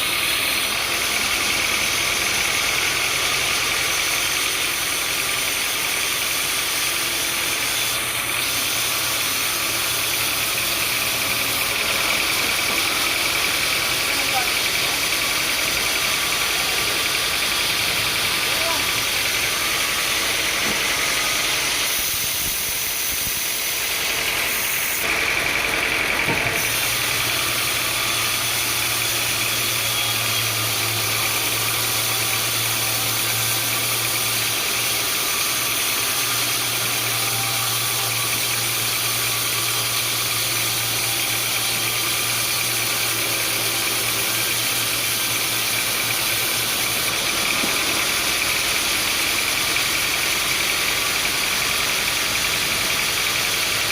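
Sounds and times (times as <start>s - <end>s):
sawmill machinery drone: 0.0s - 53.9s.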